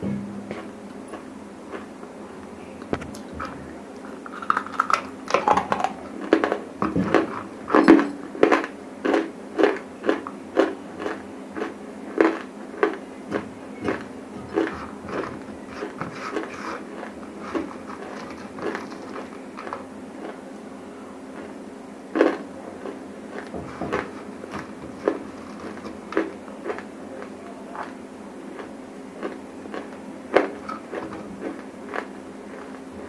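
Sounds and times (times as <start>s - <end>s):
faint steady hum: 0.0s - 33.0s
chewing crunchy clay: 0.5s - 2.1s, 2.8s - 20.5s, 21.3s - 32.9s.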